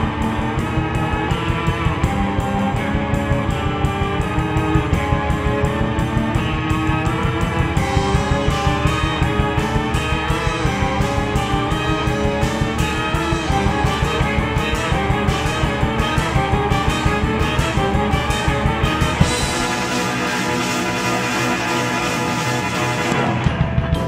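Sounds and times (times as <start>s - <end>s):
background music with fast beat: 0.0s - 24.0s.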